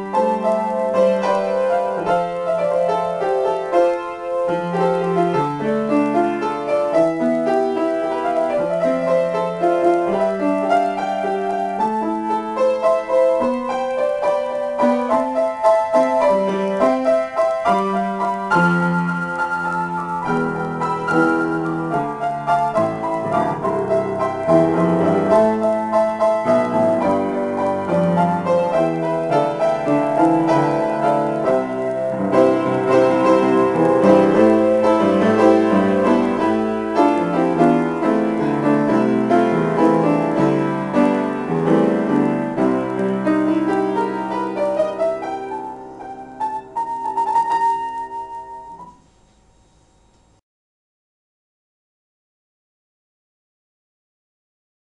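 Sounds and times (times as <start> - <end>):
solo piano playing: 0.0 - 49.0.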